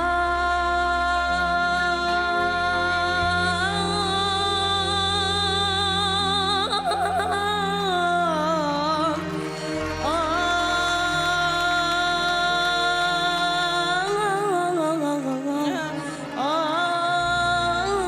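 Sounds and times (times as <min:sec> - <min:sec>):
sustained instrumental backing: 0:00.0 - 0:18.0.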